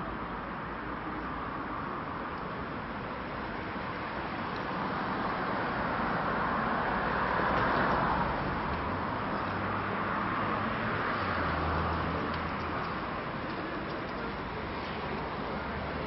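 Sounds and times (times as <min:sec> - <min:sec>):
road traffic noise: 0:00.0 - 0:16.0
vehicle engine humming low: 0:00.0 - 0:16.0.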